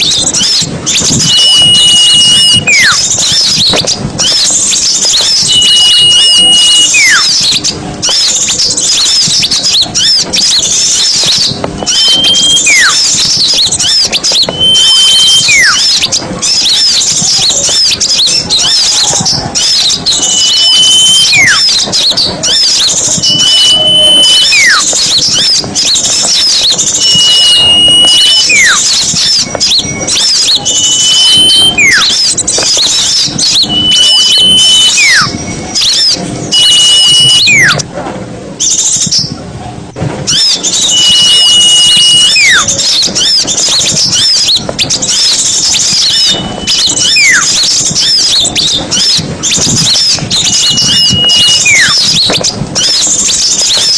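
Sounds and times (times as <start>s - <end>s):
falling whistle call: 0.0s - 37.8s, 40.3s - 53.9s
songbirds twittering: 0.0s - 37.9s, 38.6s - 39.4s, 40.2s - 53.9s.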